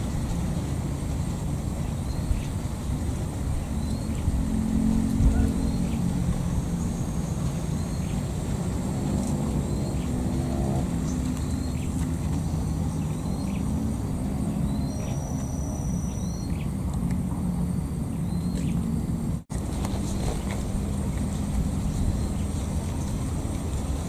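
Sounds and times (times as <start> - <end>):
low droning hum: 0.0 - 24.0.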